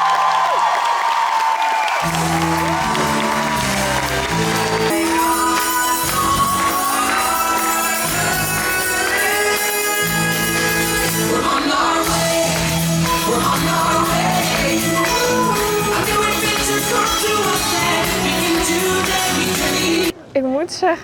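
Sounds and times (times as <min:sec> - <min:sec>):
band playing stage music: 0:02.0 - 0:20.1
person singing: 0:02.0 - 0:20.1.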